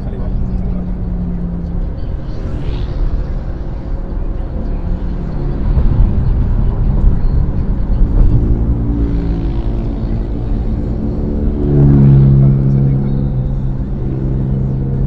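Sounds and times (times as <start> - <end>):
vehicle engines on highway: 0.0 - 15.0.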